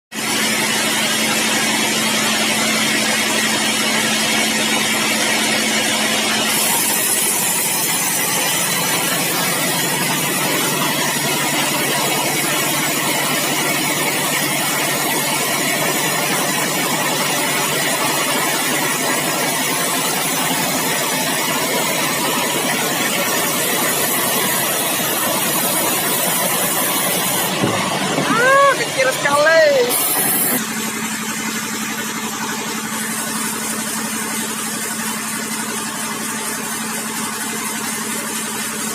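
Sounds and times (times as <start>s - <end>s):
sawmill machinery running: 0.1s - 38.9s.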